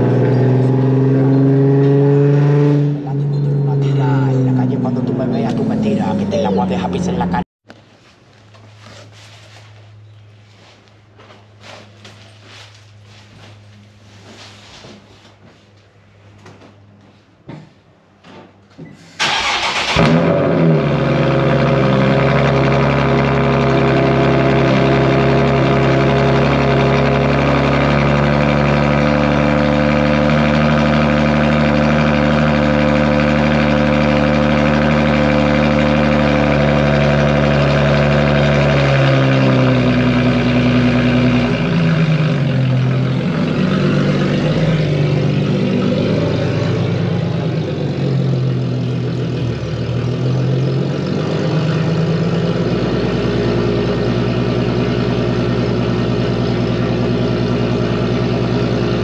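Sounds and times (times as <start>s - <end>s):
car engine starting and idling: 0.0s - 7.5s, 19.0s - 59.0s.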